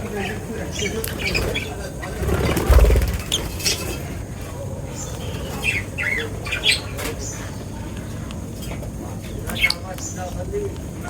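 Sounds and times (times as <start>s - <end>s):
birds chirping and squawking: 0.0s - 10.6s.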